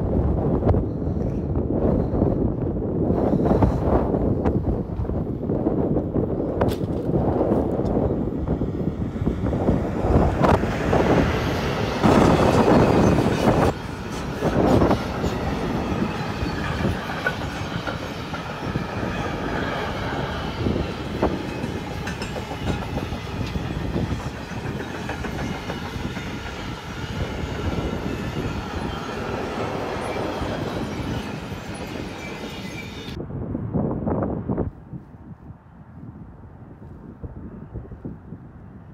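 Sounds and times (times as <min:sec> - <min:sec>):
train wheels rumbling on rail: 0:00.0 - 0:33.2.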